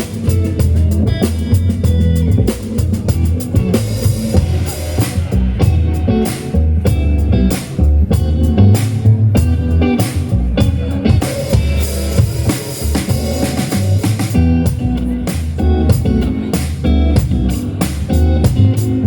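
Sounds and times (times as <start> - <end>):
drum kit: 0.0 - 19.0
guitar: 0.0 - 19.0
live band playing: 0.0 - 19.0
walking bass line: 0.0 - 19.0.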